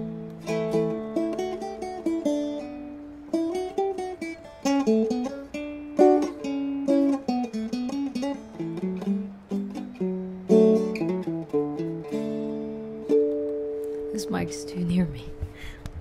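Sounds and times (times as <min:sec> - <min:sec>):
dulcimer picking: 0:00.0 - 0:15.4.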